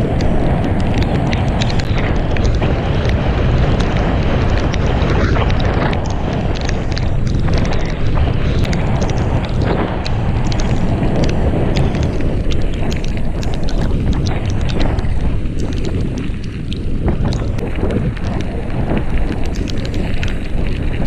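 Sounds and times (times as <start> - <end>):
bike rattling over gravel: 0.0 - 21.0
wind buffeting microphone: 0.0 - 21.0.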